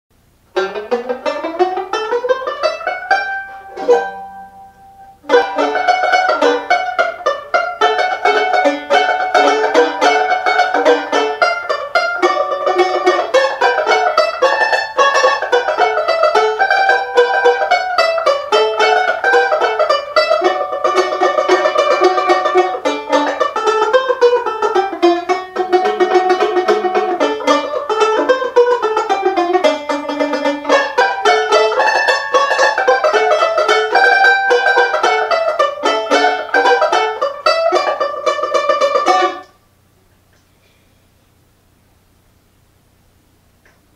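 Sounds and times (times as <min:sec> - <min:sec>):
mandolin-banjo fast plucked melody: 0:00.5 - 0:39.6.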